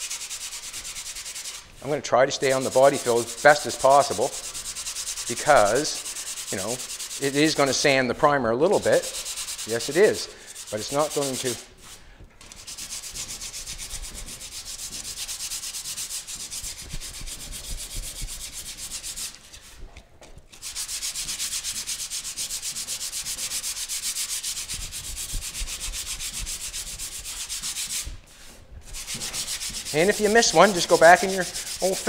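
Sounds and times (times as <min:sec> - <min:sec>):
hand sanding scratching hiss: 0:00.0 - 0:32.0.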